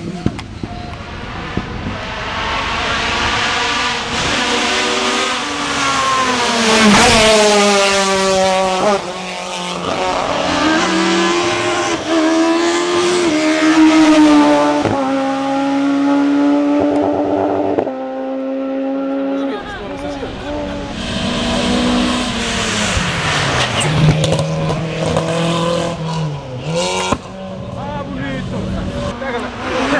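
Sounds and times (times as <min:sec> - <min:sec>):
race car engine accelerating: 0:00.0 - 0:29.9.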